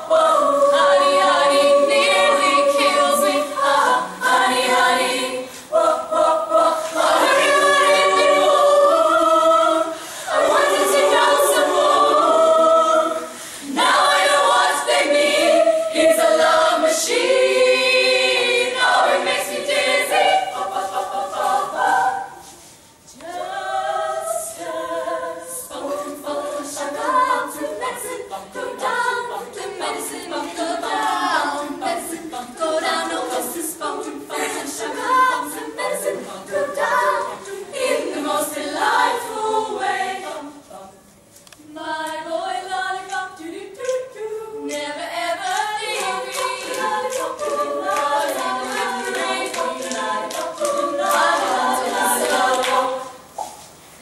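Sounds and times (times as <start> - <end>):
women singing a cappella: 0.0 - 53.8.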